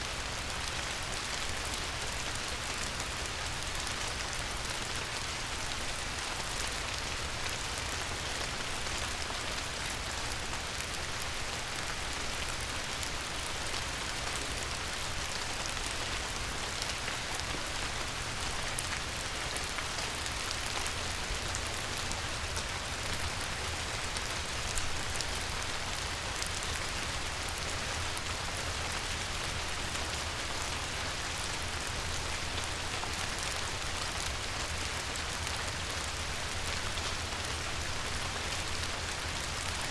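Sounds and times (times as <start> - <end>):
light rain on water: 0.0 - 39.9.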